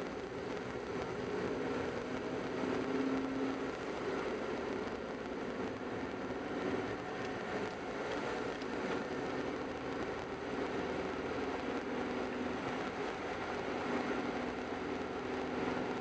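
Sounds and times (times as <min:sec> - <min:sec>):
car engine droning hum: 0:00.0 - 0:16.0
tyre road noise: 0:00.0 - 0:16.0.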